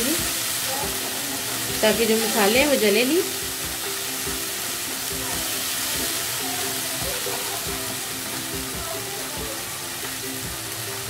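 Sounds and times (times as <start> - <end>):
food sizzling in oil: 0.0 - 11.0
quiet background music: 0.0 - 11.0.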